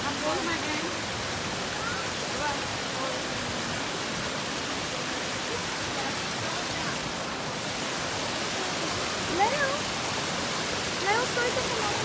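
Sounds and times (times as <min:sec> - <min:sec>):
waterfall splashing into pool: 0:00.0 - 0:12.0.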